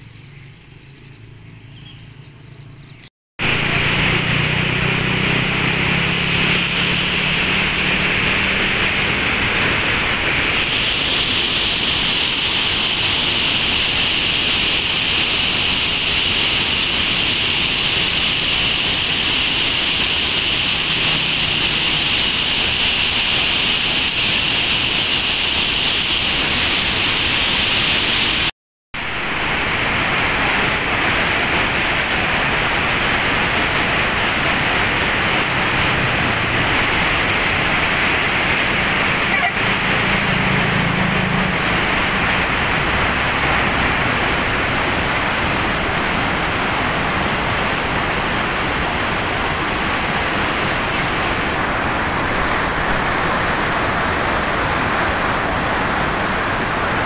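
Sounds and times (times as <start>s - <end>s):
water rushing and churning: 3.4s - 57.0s.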